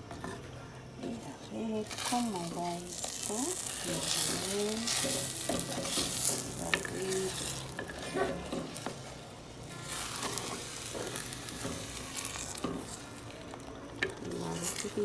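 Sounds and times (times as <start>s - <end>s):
meat and egg sizzling in a pan: 0.0s - 15.0s
utensil scraping a pan: 0.0s - 15.0s.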